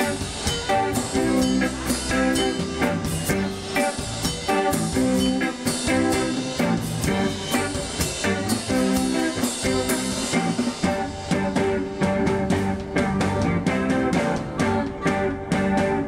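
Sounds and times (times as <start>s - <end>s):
drum kit beat: 0.0s - 16.0s
live band music: 0.0s - 16.0s.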